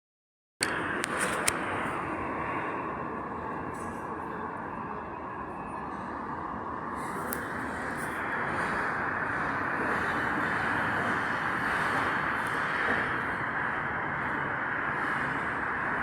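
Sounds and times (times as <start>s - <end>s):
metro train rumble: 0.6s - 16.0s.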